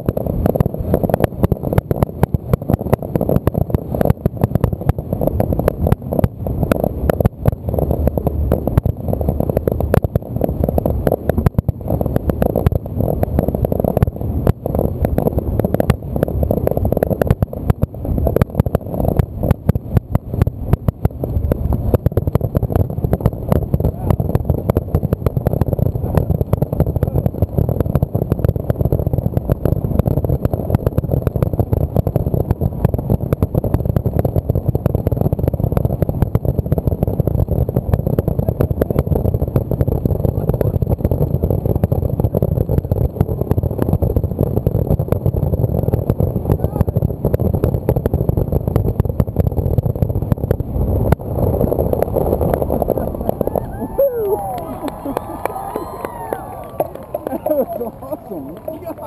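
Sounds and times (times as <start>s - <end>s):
low rumble: 0.0s - 59.0s.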